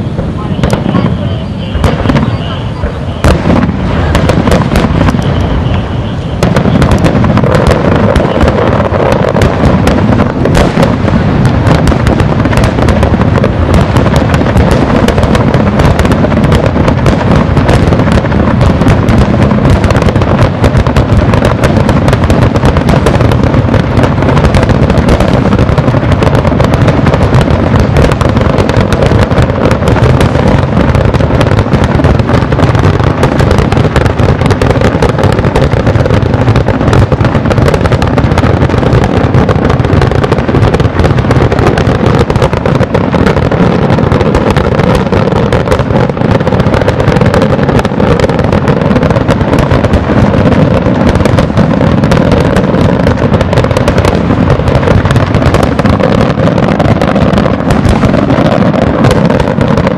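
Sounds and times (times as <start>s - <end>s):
firework shells bursting: 0.0s - 59.9s.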